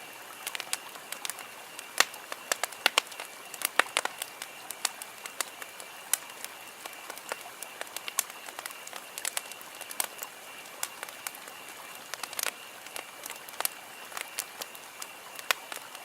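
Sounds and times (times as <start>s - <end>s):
campfire crackling: 0.0s - 16.0s
hiss of burning: 0.0s - 16.0s.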